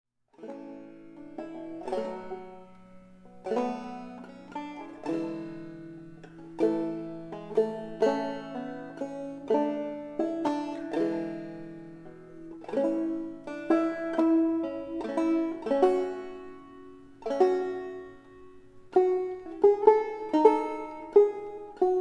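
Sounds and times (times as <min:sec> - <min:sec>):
plucked string instrument tune: 0:00.3 - 0:22.0.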